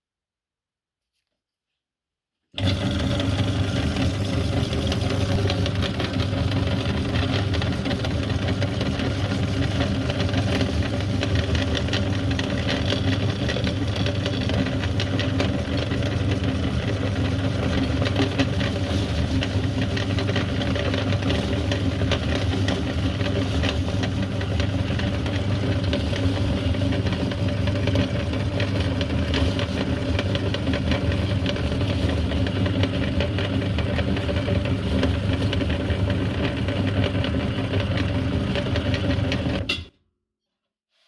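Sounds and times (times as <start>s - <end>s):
electric meat grinder motor: 2.6s - 39.7s.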